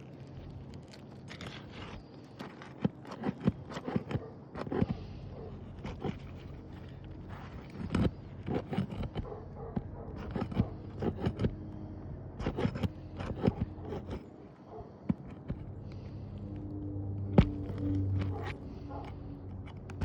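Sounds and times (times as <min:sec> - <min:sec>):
hand tools scraping roof shingles: 0:00.0 - 0:11.7, 0:12.4 - 0:16.2, 0:17.4 - 0:20.0
low steady hum: 0:00.0 - 0:20.0.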